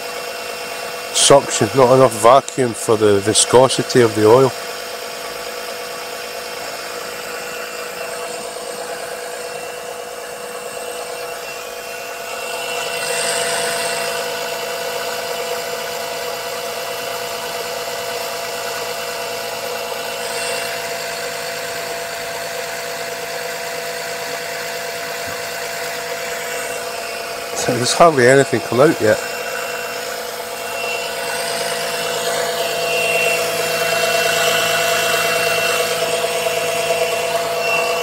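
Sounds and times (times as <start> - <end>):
suction pump motor humming: 0.0 - 38.0.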